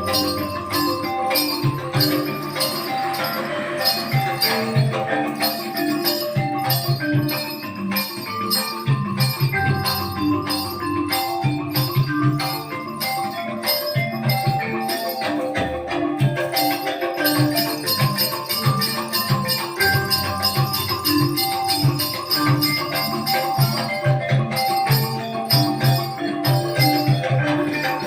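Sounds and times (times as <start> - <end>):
metallophones playing melody: 0.0 - 28.0
rapid drumming: 0.0 - 28.0
small bells jingling: 0.0 - 28.0.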